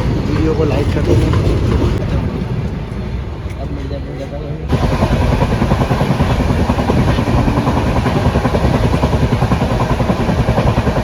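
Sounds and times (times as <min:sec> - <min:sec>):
train rushing and rattling: 0:00.0 - 0:11.0.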